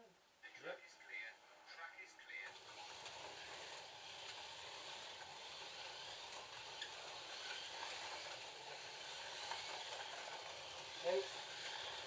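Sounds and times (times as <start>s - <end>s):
slot cars whirring: 2.3s - 12.0s.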